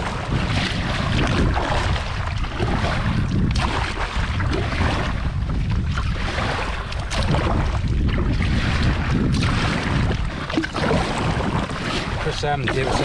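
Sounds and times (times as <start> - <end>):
kayak paddle splashing: 0.0 - 13.0
wind rumble on microphone: 0.0 - 13.0.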